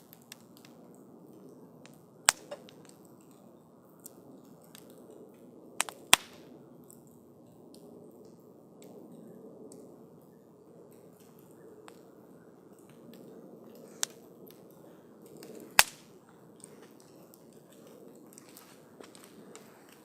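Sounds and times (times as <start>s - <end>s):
burning wood popping: 0.0s - 7.8s, 10.8s - 20.0s
campfire crackling: 0.0s - 20.0s.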